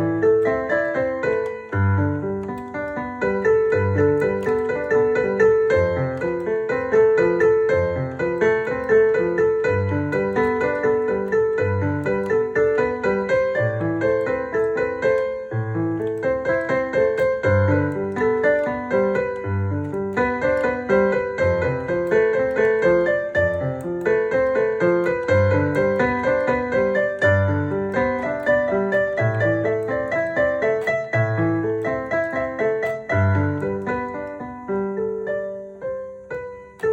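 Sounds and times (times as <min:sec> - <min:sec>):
digital piano pop melody: 0:00.0 - 0:36.9.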